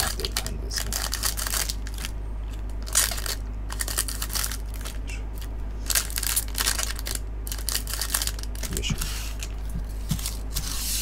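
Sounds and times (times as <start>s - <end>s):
plastic wrappers crinkling: 0.0s - 10.4s
steady low hum: 0.0s - 11.0s.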